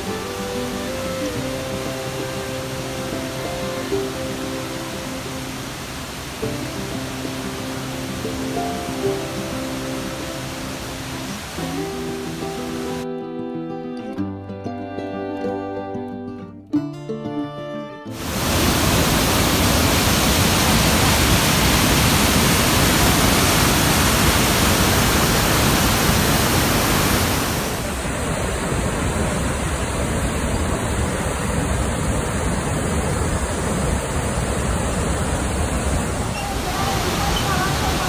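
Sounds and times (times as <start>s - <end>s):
river rushing over rocks: 0.0s - 13.0s, 18.2s - 38.0s.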